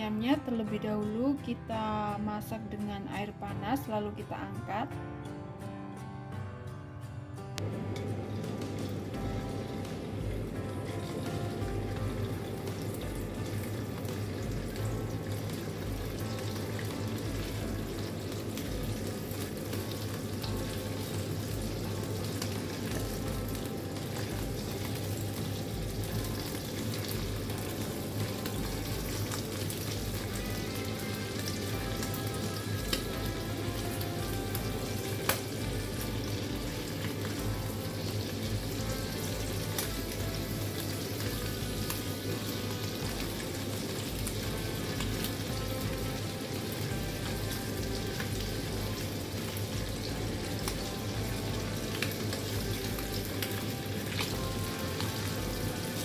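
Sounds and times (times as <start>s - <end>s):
livers sizzling in a wok: 7.6s - 56.0s.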